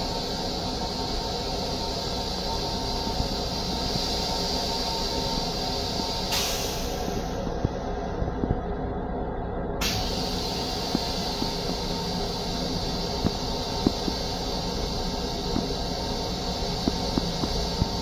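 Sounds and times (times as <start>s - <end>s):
steady high hiss: 0.0s - 8.2s, 9.8s - 18.0s
low railcar rumble: 0.0s - 18.0s.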